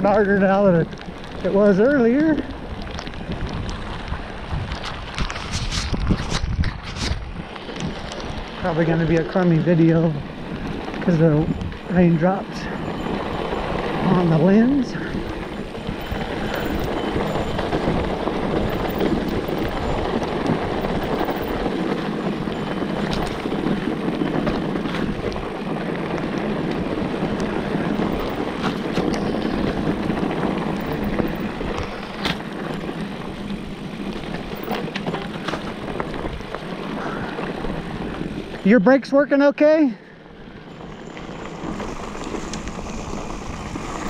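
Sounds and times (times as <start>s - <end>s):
bike clicks and knocks: 0.0s - 38.6s, 40.6s - 44.0s
bike tyres rolling on dirt: 0.0s - 44.0s
wind on microphone: 2.2s - 38.7s, 40.4s - 44.0s.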